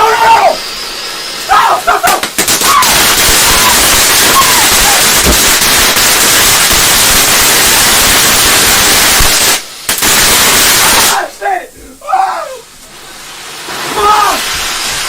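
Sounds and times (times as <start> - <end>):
firework hissing: 0.0 - 15.0.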